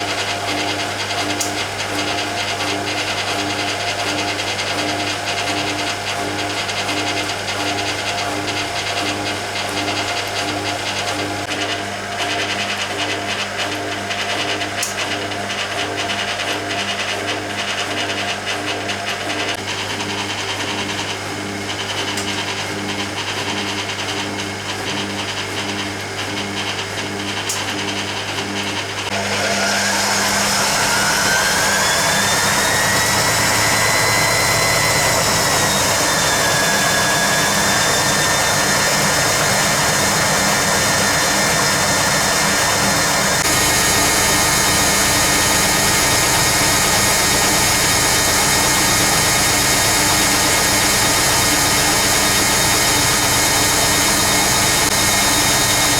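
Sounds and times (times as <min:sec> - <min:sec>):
washing machine humming: 0:00.0 - 0:55.9
washing machine motor whine: 0:00.0 - 0:55.9.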